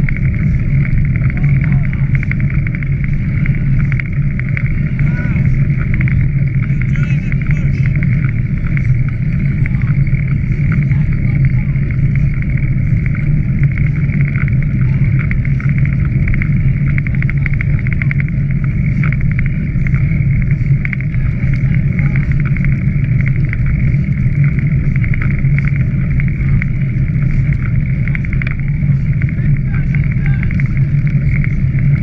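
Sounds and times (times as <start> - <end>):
bicycle rattling on gravel: 0.0 - 32.0.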